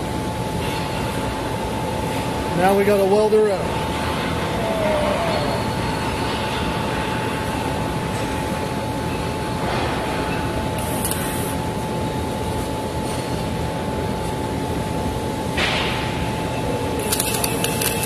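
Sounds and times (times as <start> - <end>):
ventilation noise: 0.0 - 18.0.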